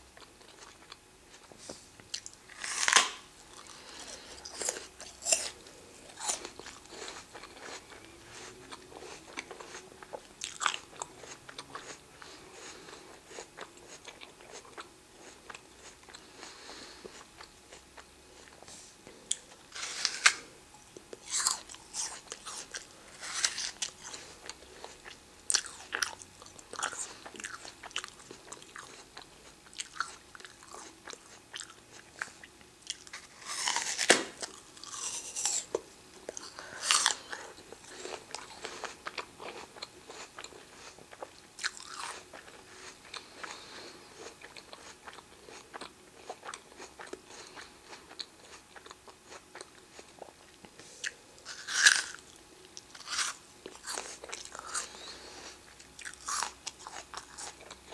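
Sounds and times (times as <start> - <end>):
crunchy apple bites and chewing: 0.0 - 57.9.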